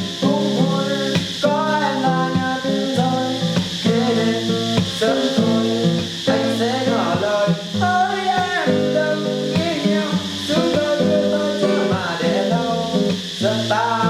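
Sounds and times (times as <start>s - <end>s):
guitar: 0.0s - 14.0s
instrumental pop music: 0.0s - 14.0s.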